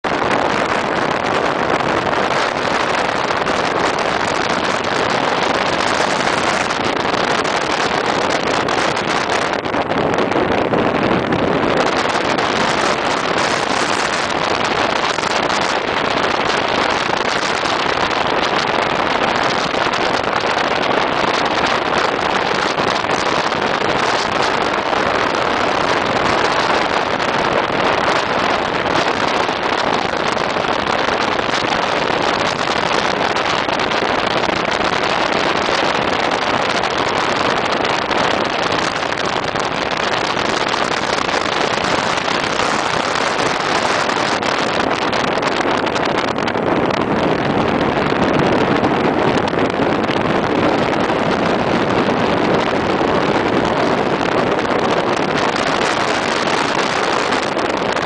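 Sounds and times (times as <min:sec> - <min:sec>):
wind and road noise in car: 0:00.0 - 0:58.0.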